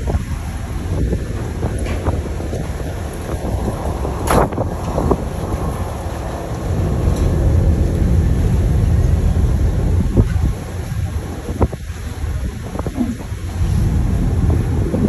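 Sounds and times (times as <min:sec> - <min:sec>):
ferry engines rumbling: 0:00.0 - 0:15.0
propeller wash churning water: 0:00.0 - 0:15.0
wind buffeting microphone: 0:00.0 - 0:15.0.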